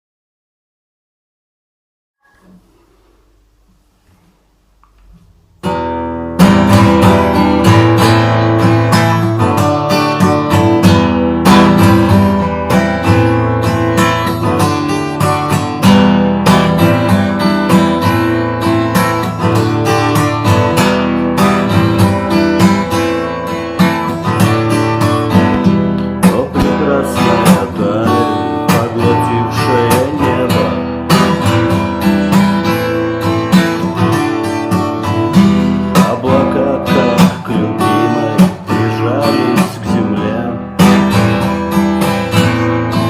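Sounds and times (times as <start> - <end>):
acoustic guitar strumming chords: 2.2 - 43.0.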